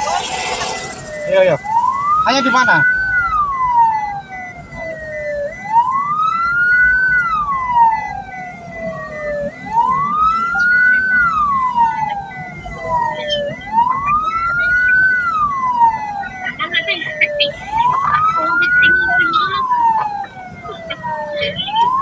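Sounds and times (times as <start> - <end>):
ambulance siren wailing: 0.0 - 22.0
rumble of moving vehicle: 0.0 - 22.0.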